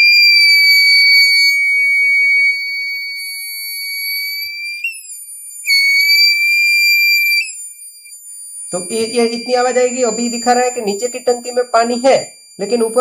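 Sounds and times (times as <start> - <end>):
high-pitched alarm buzzer: 0.0 - 13.0.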